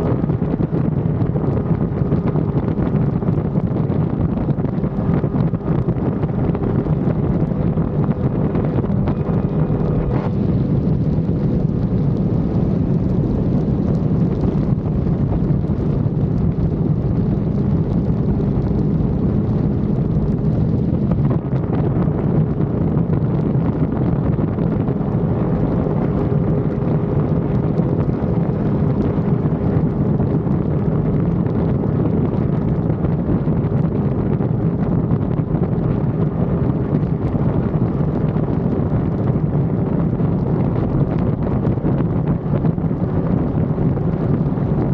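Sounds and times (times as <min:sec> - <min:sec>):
motorcycle engine humming: 0:00.0 - 0:44.9
wind buffeting microphone: 0:00.0 - 0:44.9.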